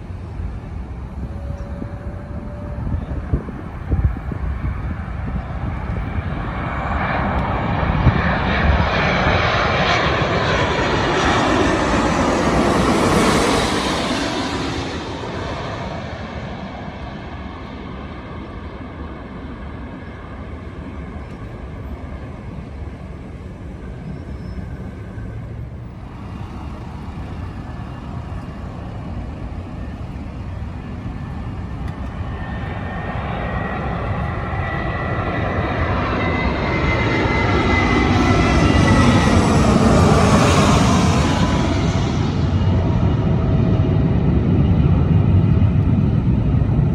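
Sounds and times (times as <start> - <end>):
jet airliner engines: 0.0 - 46.9.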